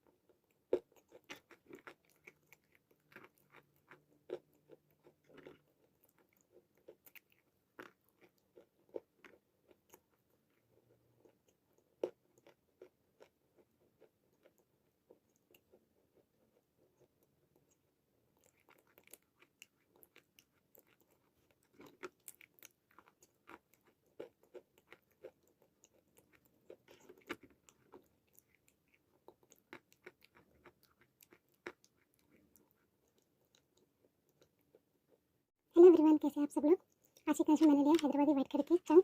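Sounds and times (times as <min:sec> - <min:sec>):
crunching and chewing chalk: 0:00.0 - 0:35.2.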